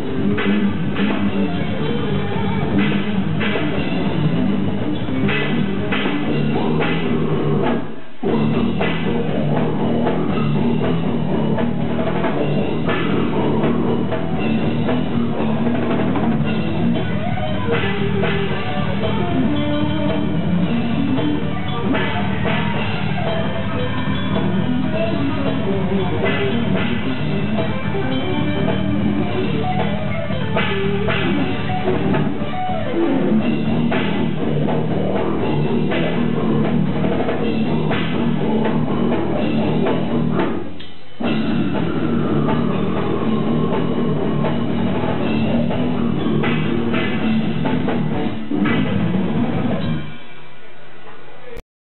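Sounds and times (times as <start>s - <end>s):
death metal band playing: 0.0s - 50.4s.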